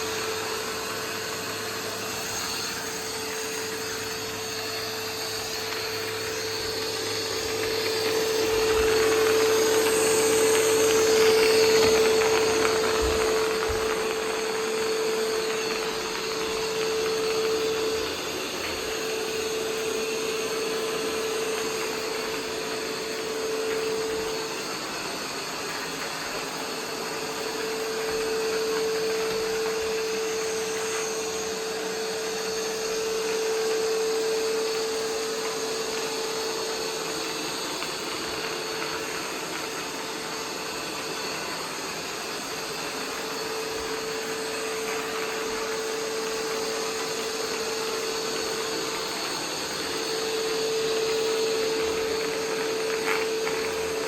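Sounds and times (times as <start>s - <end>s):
robot vacuum motor whirring: 0.0s - 54.0s.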